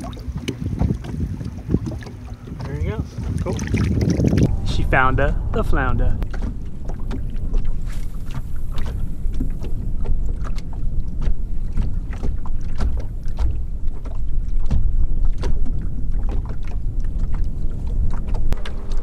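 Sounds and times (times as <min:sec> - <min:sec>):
water slapping against boat hull: 0:00.0 - 0:04.5, 0:06.2 - 0:19.0
wind rumble on microphone: 0:00.0 - 0:19.0.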